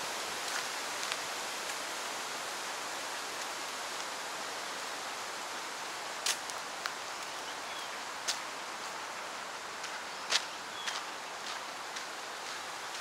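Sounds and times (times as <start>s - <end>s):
outdoor park hiss: 0.0s - 13.0s.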